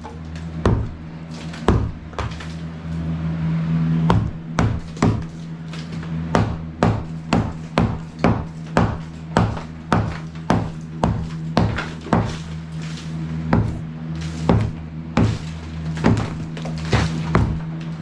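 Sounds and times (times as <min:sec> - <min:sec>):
hammer striking a wall: 0:00.0 - 0:02.6, 0:04.1 - 0:17.8
steady low hum: 0:00.0 - 0:18.0.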